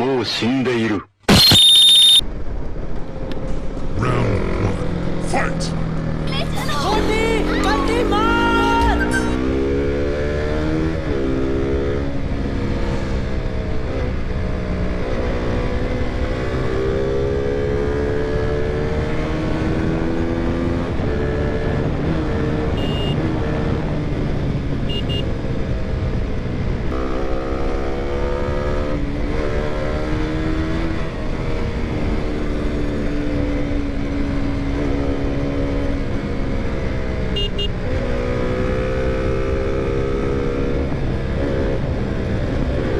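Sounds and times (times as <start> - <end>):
low wind rumble: 2.2 - 42.9
motorcycle engine revving: 6.9 - 42.9.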